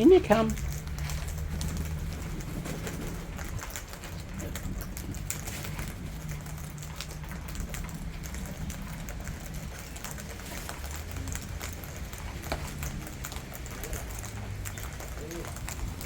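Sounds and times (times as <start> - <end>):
low rumble: 0.0 - 13.6
rain falling: 0.0 - 16.0
sharp drip-like ticks: 0.0 - 16.0.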